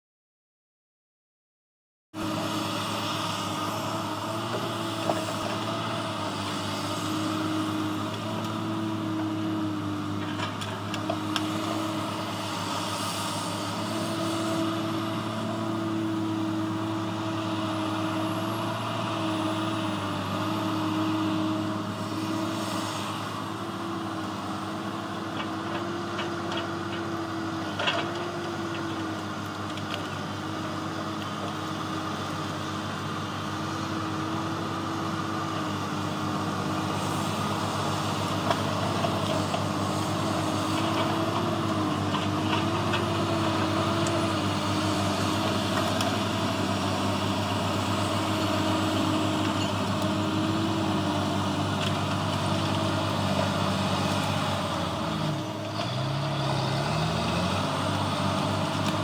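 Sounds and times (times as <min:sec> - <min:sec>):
diesel engine running: 0:02.2 - 0:59.0.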